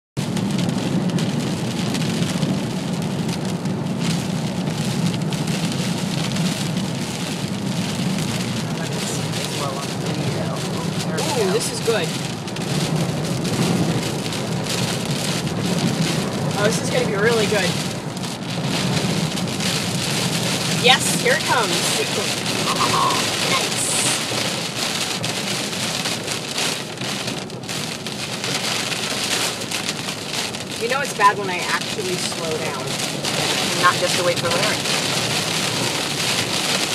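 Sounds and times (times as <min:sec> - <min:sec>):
heavy rain hitting vehicle: 0:00.2 - 0:36.9
low vehicle hum: 0:00.2 - 0:36.9.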